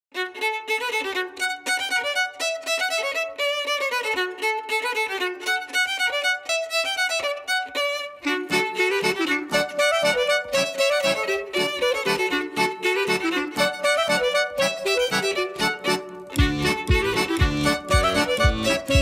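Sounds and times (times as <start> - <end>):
solo violin folk dance tune: 0.1 - 19.0.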